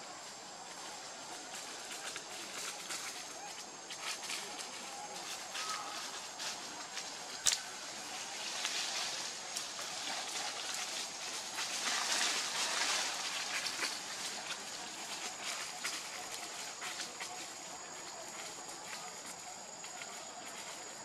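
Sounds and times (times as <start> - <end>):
light rustling and crackling: 0.7 - 21.0.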